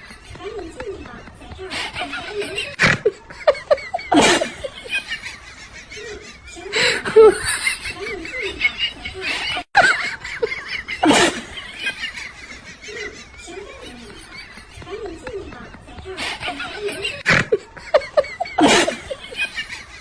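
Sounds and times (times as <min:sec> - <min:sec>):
laughter: 0:01.6 - 0:15.4, 0:16.0 - 0:20.0.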